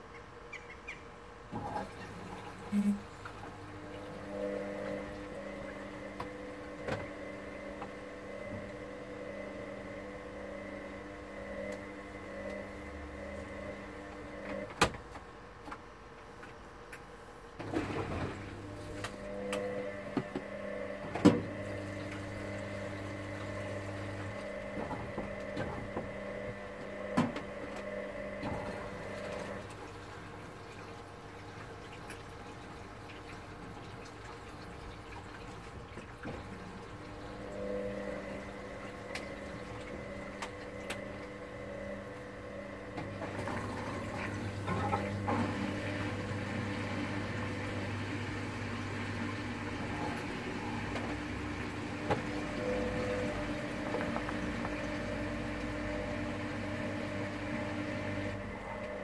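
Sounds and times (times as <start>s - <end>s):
washing machine drum whirring: 1.1s - 59.0s.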